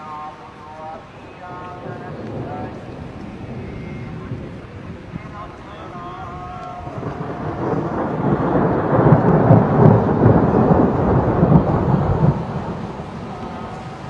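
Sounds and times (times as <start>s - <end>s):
thunder rumbling: 1.4s - 14.0s.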